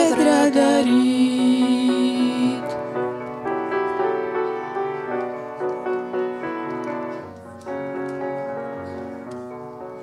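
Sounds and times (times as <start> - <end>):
piano melody over chords: 0.0 - 10.0.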